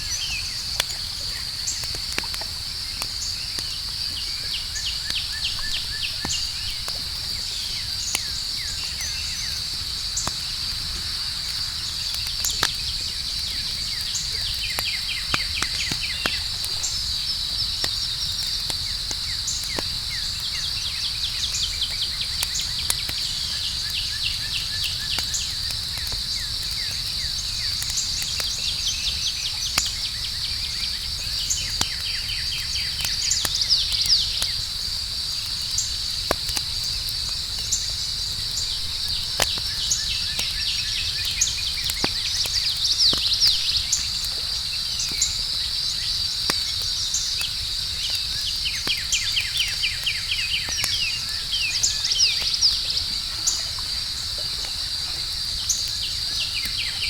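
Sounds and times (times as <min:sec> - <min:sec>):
campfire crackling and popping: 0:00.0 - 0:57.0
night insects chirping: 0:00.0 - 0:57.0.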